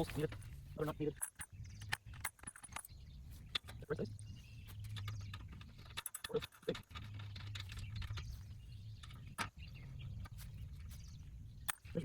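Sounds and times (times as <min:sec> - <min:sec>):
small hard objects clicking: 0:00.0 - 0:11.0.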